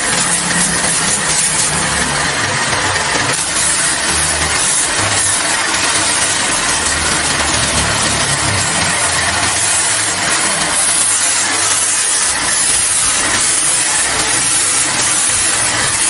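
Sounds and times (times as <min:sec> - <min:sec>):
paint spray gun hissing: 0:00.0 - 0:16.0.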